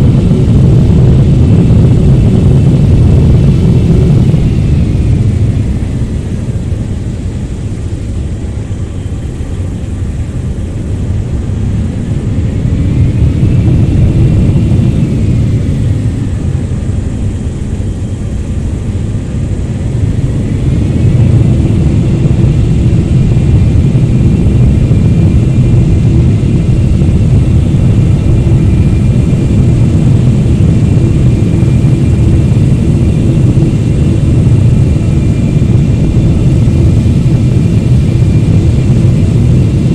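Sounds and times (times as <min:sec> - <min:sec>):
deep jet engine rumble: 0:00.0 - 0:39.9
high jet engine whine: 0:00.0 - 0:39.9.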